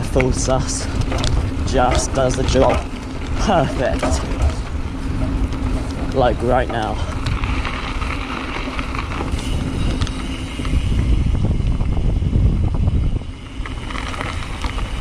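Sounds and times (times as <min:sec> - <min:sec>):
bike clattering over bumps: 0:00.0 - 0:15.0
mountain bike rumbling on trail: 0:00.0 - 0:15.0
wind buffeting microphone: 0:00.0 - 0:15.0.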